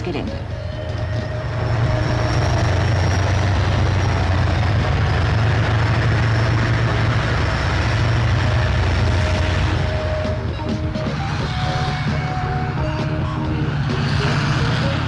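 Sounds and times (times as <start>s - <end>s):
tank engine low rumble: 0.0s - 15.0s.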